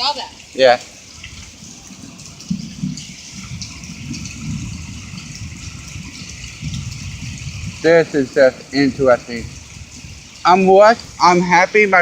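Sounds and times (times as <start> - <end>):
hail ticking: 0.0 - 12.0
heavy rain pouring: 0.0 - 12.0.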